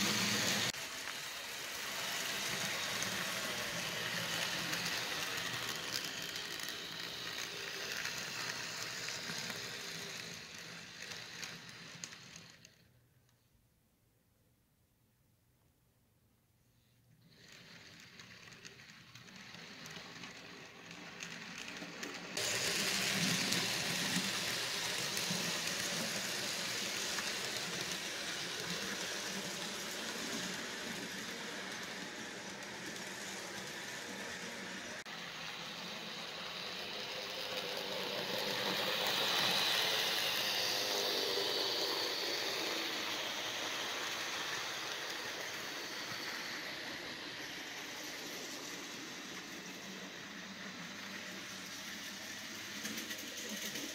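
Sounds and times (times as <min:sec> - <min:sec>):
model train whirring rattle: 0:00.0 - 0:12.9, 0:17.2 - 0:53.9.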